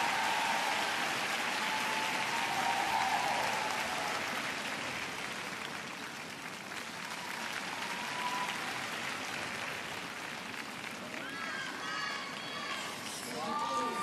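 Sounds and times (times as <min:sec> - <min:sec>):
crowd applauding: 0:00.0 - 0:12.7.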